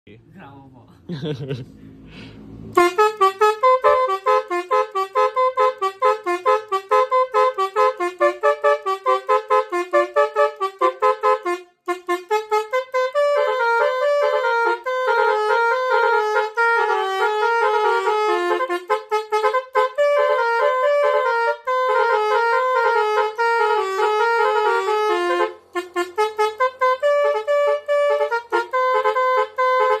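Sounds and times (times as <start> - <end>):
multi-tone bus air horn tune: 2.7 - 30.0.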